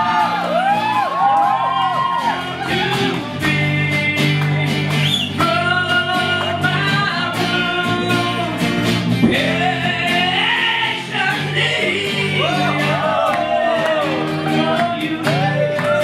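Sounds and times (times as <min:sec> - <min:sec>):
electric guitar: 0:00.0 - 0:16.0
strummed acoustic guitars: 0:00.0 - 0:16.0
man singing: 0:02.2 - 0:16.0.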